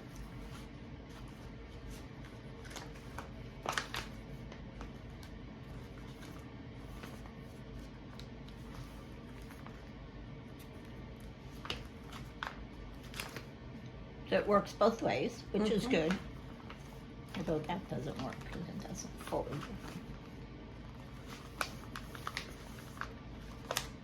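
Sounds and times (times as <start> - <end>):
paper pages rustling: 0.0 - 13.6, 15.7 - 24.0
low steady hum: 0.0 - 24.0.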